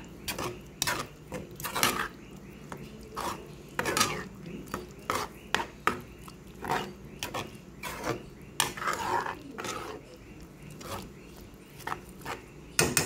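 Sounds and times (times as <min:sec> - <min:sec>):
spoon scraping and knocking pot: 0:00.0 - 0:10.0, 0:11.8 - 0:13.0.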